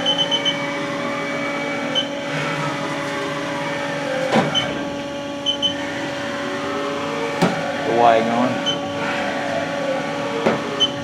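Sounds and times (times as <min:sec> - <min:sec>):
machine whine: 0:00.0 - 0:11.0.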